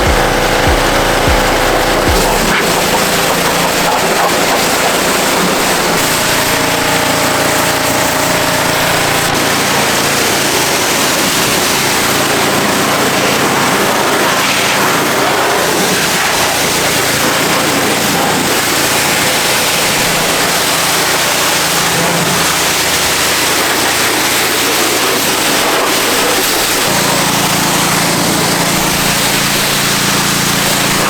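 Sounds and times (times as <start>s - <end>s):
pressure washer jet hissing: 0.0s - 31.0s
pressure washer machine running: 0.0s - 31.0s.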